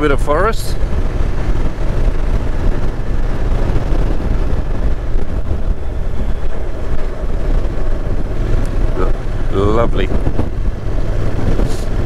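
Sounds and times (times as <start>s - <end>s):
motorcycle engine drone: 0.0s - 12.0s
tyres on road: 0.0s - 12.0s
wind buffeting microphone: 0.0s - 12.0s.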